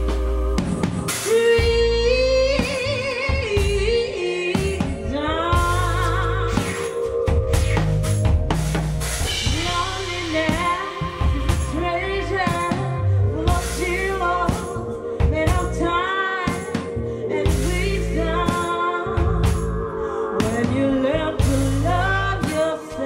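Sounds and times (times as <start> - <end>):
electric bass: 0.0 - 22.6
drum kit: 0.0 - 23.0
keyboard sustained tone: 0.0 - 23.0
woman singing: 1.1 - 7.8, 9.3 - 23.0.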